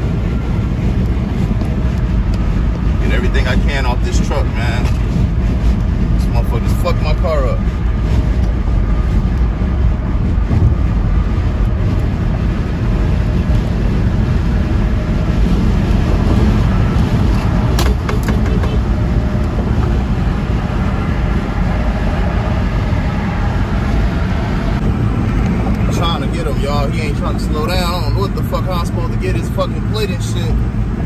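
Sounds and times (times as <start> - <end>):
road and wind noise in car: 0.0 - 31.0.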